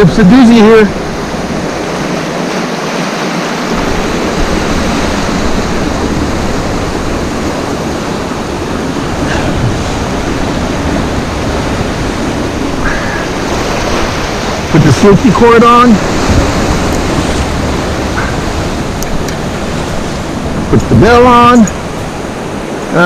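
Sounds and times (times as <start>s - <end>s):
surf on rocky shore: 0.0s - 23.0s
wind buffeting microphone: 3.3s - 23.0s.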